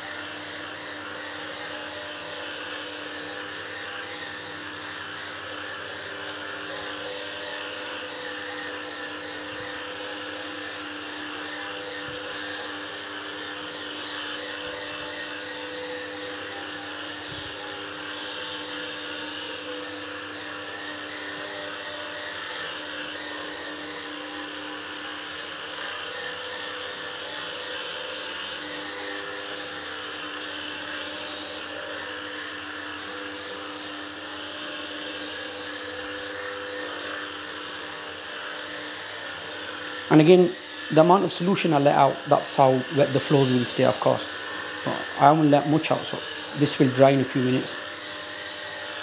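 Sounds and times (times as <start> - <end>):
spin mop motor humming: 0.0 - 49.0.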